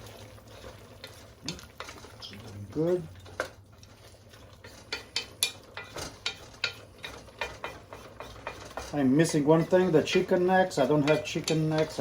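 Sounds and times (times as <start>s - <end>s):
spoon knocking and scraping pot: 0.0s - 12.0s
stew simmering in a pot: 0.0s - 12.0s.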